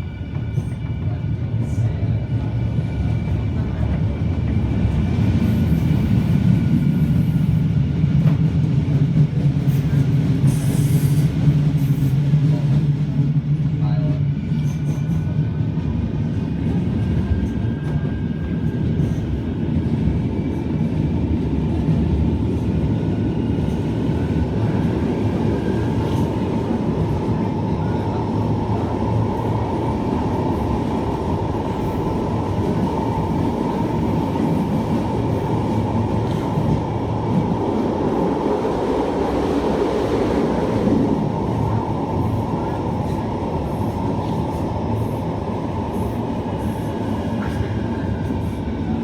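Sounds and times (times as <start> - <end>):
tram wheels rumbling on rail: 0.0 - 49.0.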